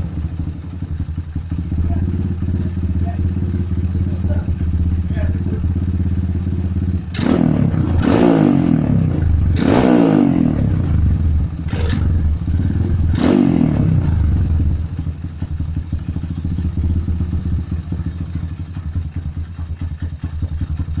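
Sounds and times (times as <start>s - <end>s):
motorcycle engine idling: 0.0s - 21.0s
motorcycle engine revving: 0.0s - 21.0s.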